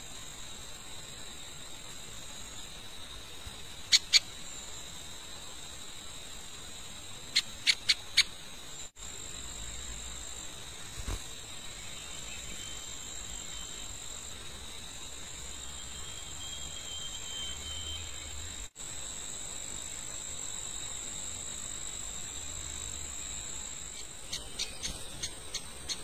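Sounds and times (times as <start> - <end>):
faint hiss: 0.0 - 26.0
high-pitched insect chorus: 0.0 - 26.0.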